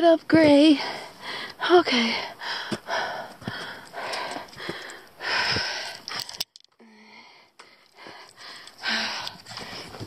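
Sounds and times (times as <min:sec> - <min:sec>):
person panting: 0:00.7 - 0:10.0.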